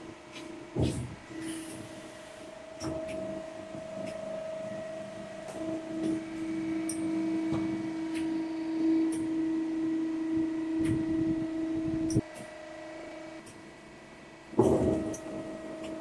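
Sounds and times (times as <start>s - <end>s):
machine mechanical hum: 0.0s - 16.0s.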